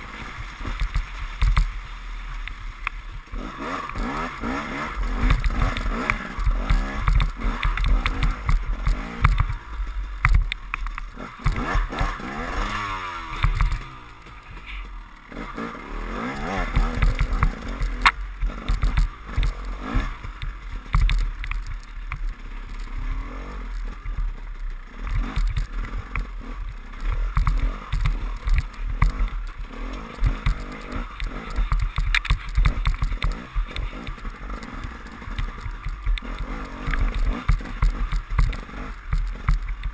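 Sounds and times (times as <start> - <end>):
bike knocking over bumps: 0.0 - 1.8, 3.4 - 14.7, 16.2 - 23.0, 24.7 - 39.9
motorcycle engine revving: 0.0 - 39.9.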